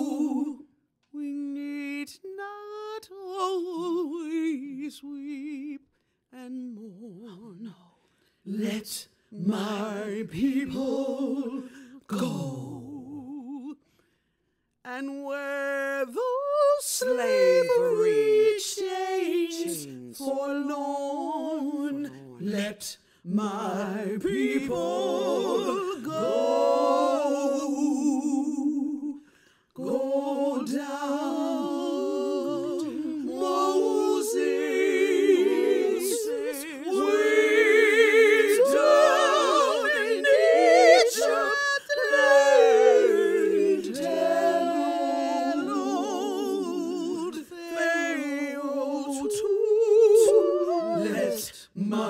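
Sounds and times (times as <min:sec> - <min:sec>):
woman singing wordlessly: 0:00.0 - 0:05.8, 0:06.4 - 0:13.8, 0:14.9 - 0:29.2, 0:29.8 - 0:52.0.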